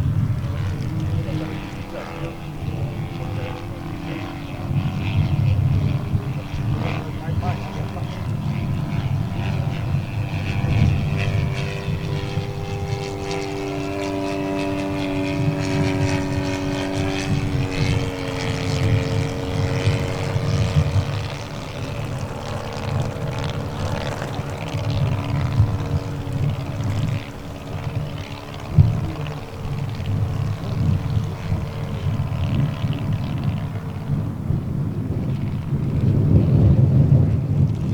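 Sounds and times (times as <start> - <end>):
low wind rumble: 0.0 - 37.9
model plane engine droning: 0.0 - 37.9.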